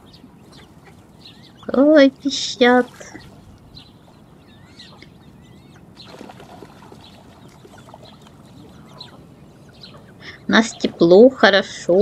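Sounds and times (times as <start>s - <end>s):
waterbird chicks peeping: 0.0s - 12.0s.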